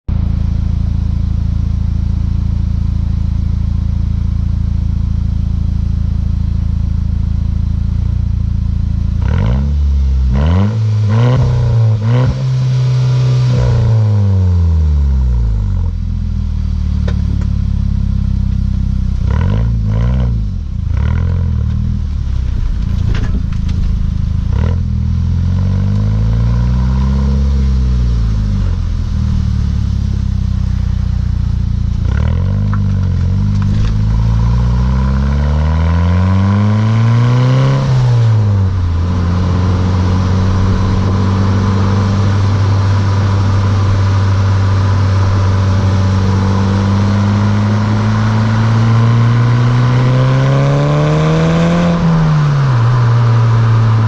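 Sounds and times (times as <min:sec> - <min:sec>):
car engine revving: 0:00.1 - 0:54.0.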